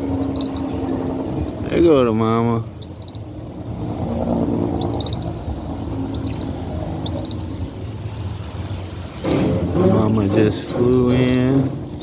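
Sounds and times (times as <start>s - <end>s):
birds chirping: 0.0s - 12.0s
low steady drone: 0.0s - 12.0s.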